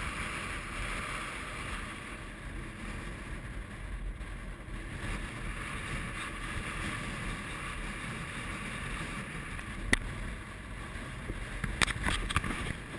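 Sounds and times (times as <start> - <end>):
wind rushing across microphone: 0.0 - 12.9.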